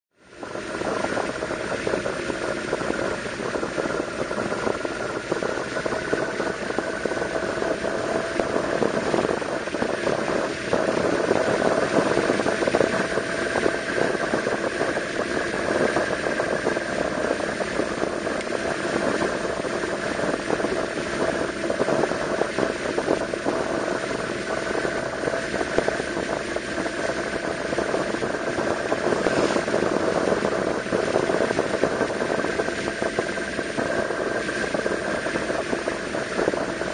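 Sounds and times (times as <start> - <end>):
wind and road noise: 0.2 - 36.9
motorcycle engine running: 0.3 - 36.9.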